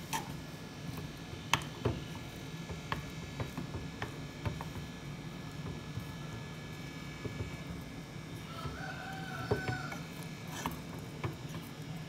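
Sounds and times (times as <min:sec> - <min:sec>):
wooden spoon stirring thick dough: 0:00.0 - 0:12.0.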